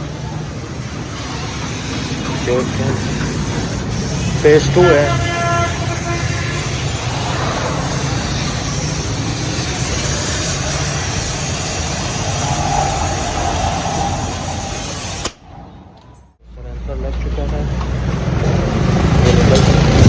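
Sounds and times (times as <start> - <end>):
car engine idling: 0.0 - 15.2, 16.4 - 20.0
street noise: 0.0 - 20.0.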